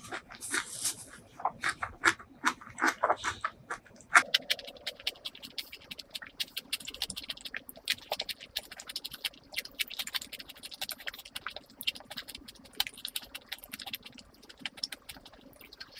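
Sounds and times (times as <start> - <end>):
chewing food with wet smacks: 0.0 - 15.9.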